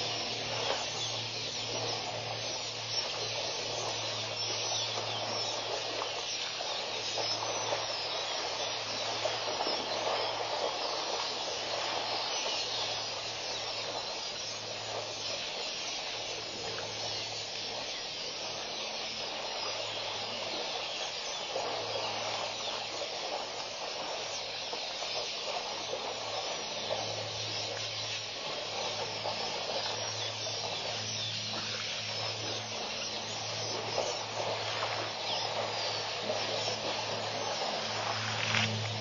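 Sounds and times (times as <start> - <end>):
low hum: 0.0 - 20.7, 25.5 - 39.0
steady hiss: 0.0 - 39.0.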